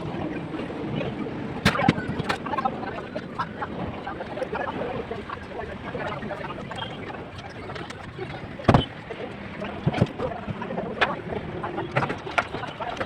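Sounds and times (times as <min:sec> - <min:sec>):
work site noise: 0:00.0 - 0:13.0.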